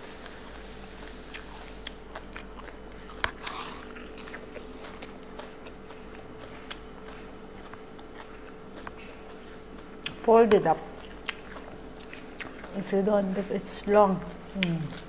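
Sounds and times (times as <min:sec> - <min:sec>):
chewing: 0:00.2 - 0:13.4, 0:14.6 - 0:15.0.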